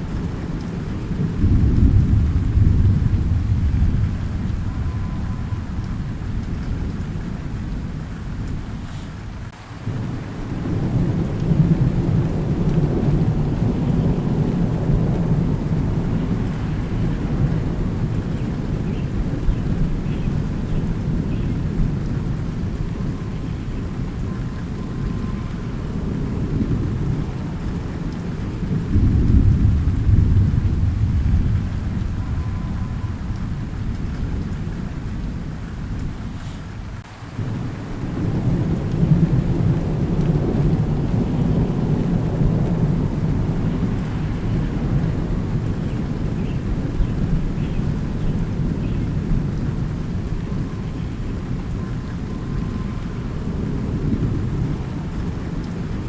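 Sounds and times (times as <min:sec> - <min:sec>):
rolling thunder: 0:00.0 - 0:08.9, 0:09.8 - 0:56.0
steady rain: 0:00.0 - 0:56.0.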